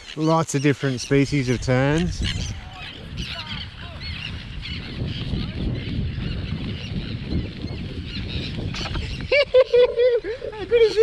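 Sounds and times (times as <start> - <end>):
low rumble of wind: 0.0 - 11.0
terns calling: 0.0 - 11.0.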